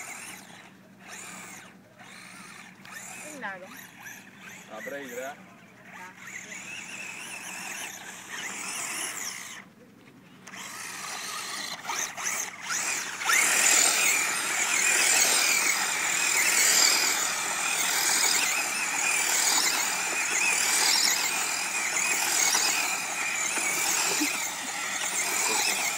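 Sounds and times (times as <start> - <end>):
rc car motor whining: 0.0 - 9.7, 10.3 - 25.9.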